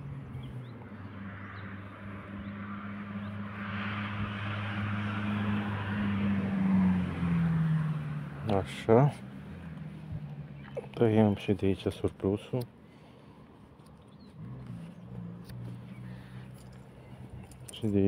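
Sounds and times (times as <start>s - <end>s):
engine passing with low hum: 0.0s - 18.0s.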